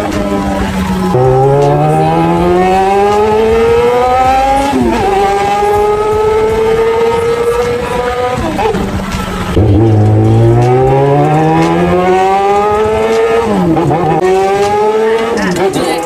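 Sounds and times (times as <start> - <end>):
motorcycle engine accelerating: 0.0 - 15.7.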